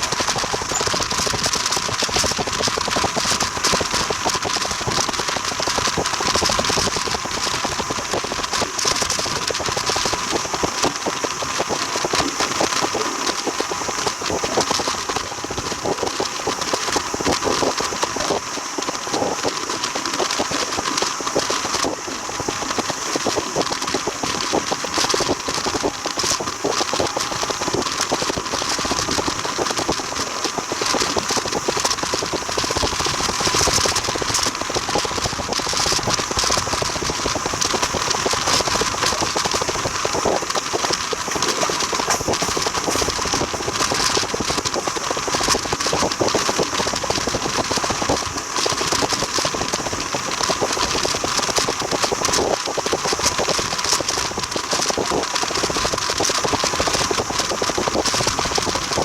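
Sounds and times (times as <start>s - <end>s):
fast clatter of train wheels: 0.0s - 59.0s
train wheels rumbling and rattling: 0.0s - 59.0s.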